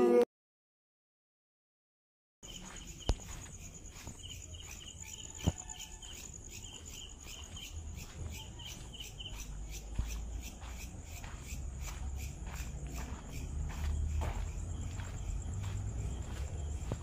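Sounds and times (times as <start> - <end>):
crickets trilling: 2.4 - 17.0
insect chirping: 2.4 - 17.0.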